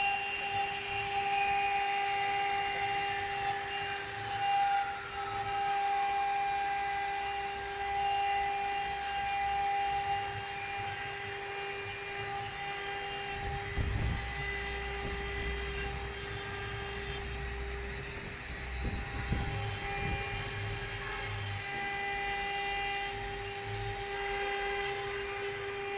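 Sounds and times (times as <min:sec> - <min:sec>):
engraving spindle whine: 0:00.0 - 0:25.9.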